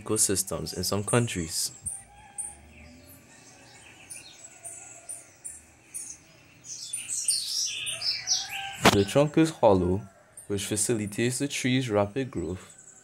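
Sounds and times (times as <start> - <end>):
faint outdoor background noise: 0.0 - 13.0
small birds chirping: 0.0 - 13.0.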